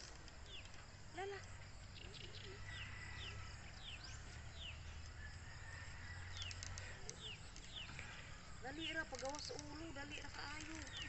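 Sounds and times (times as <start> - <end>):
small bird chirping: 0.4 - 5.3, 6.2 - 11.0.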